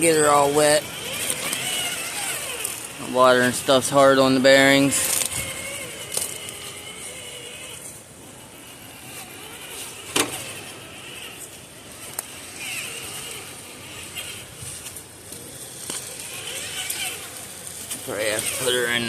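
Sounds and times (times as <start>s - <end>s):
tires clicking on rock: 0.0s - 19.0s
toy car motor whining: 0.0s - 19.0s.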